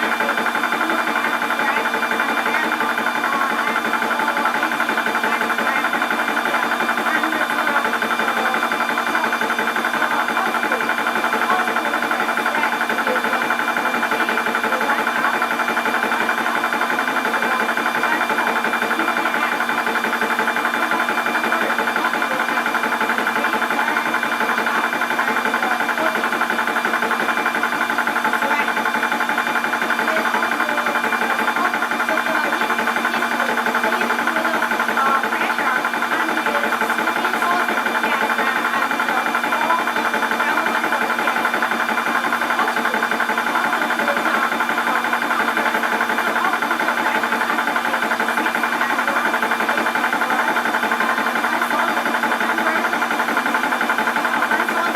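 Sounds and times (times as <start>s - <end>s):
air compressor running: 0.0s - 54.9s.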